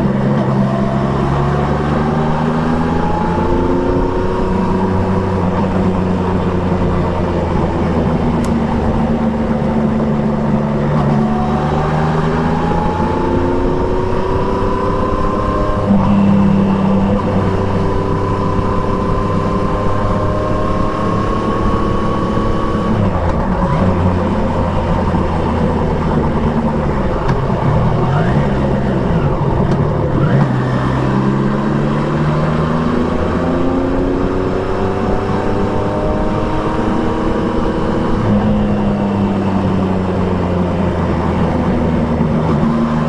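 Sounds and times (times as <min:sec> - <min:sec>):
motorcycle engine: 0:00.0 - 0:43.0
wind and road noise: 0:00.0 - 0:43.0.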